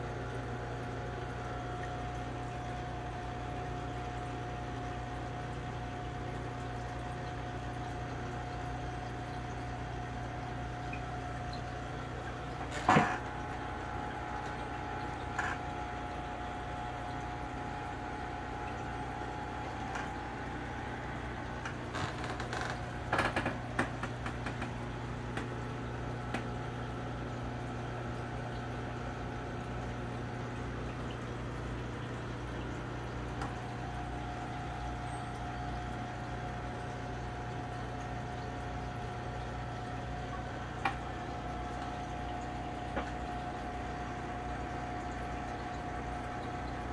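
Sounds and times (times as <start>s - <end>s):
aquarium pump hum: 0.0s - 46.9s
aquarium water bubbling: 0.0s - 46.9s.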